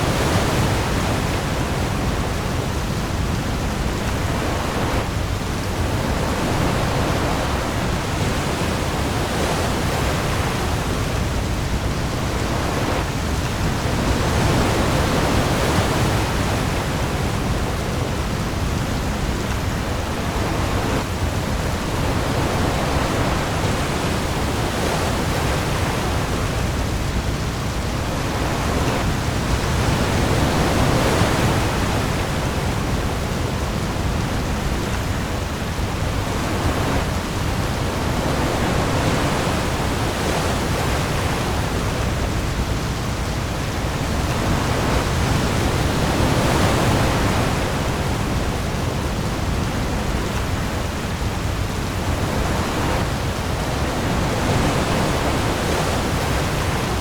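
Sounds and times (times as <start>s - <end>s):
heavy rain on sea: 0.0s - 57.0s
waves rolling: 0.0s - 57.0s.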